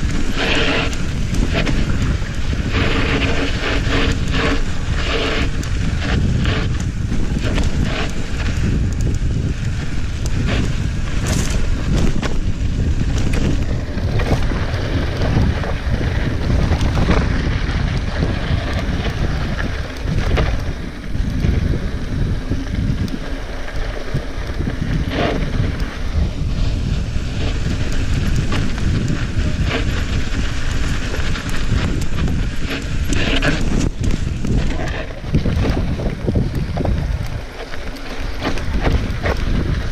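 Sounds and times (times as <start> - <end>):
bike tyres rumbling on dirt: 0.0 - 39.9
stones and bike clicking: 0.0 - 39.9
wind buffeting microphone: 0.0 - 39.9.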